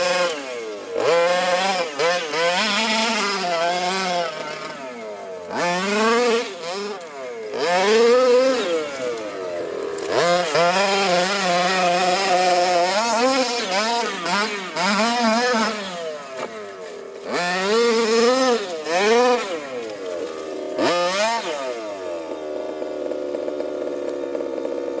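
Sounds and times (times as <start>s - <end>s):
rc car engine revving: 0.0s - 25.0s.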